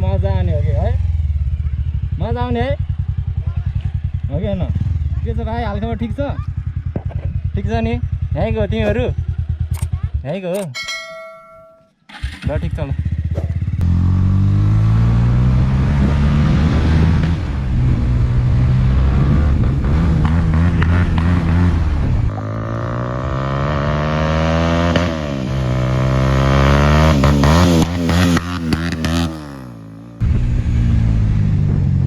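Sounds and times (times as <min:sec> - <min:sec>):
motorcycle engine accelerating: 0:00.0 - 0:10.2, 0:12.1 - 0:32.0.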